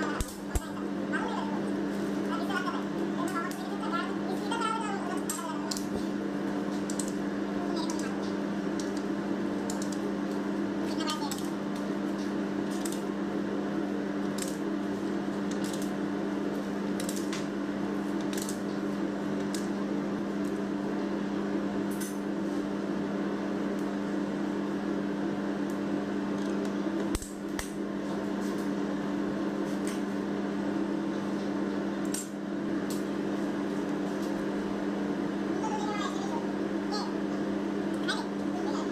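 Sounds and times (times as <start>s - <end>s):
steady electrical hum: 0.0s - 38.9s.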